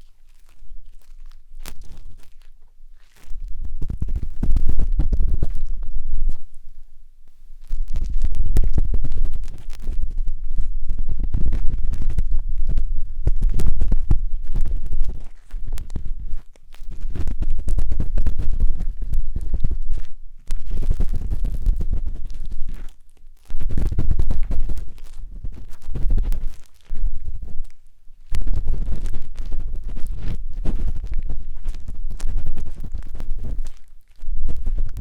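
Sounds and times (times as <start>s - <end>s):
scratching on microphone ear: 0.0s - 35.0s.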